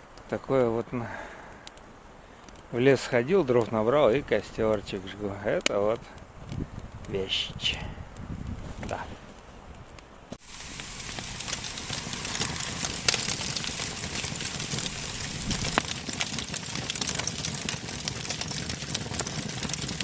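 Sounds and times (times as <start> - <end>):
campfire crackling and popping: 1.4 - 20.0.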